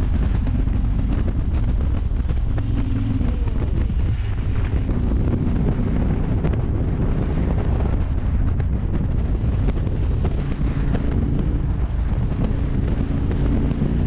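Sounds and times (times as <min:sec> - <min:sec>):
motorcycle engine cruising: 0:00.0 - 0:14.0
wind rushing over microphone: 0:00.0 - 0:14.0.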